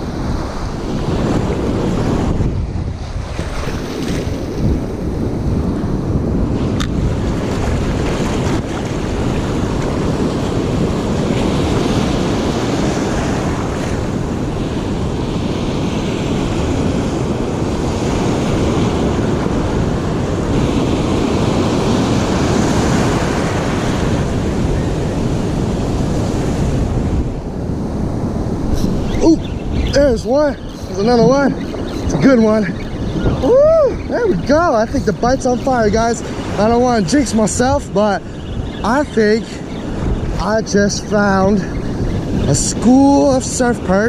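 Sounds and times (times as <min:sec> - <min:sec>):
ocean surf breaking: 0:00.0 - 0:44.0
wind buffeting microphone: 0:00.0 - 0:44.0.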